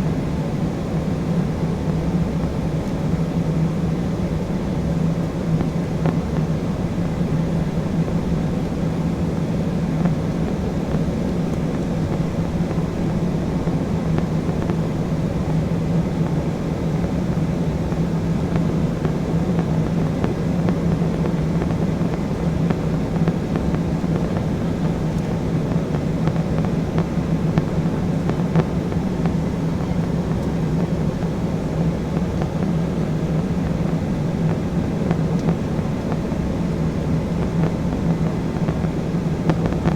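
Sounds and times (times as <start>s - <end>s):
low constant hum: 0.0s - 39.9s
turbofan engine drone: 0.0s - 39.9s.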